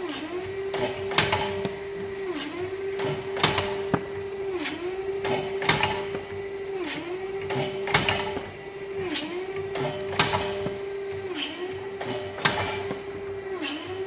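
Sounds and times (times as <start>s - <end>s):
motor-driven press humming: 0.0s - 14.0s.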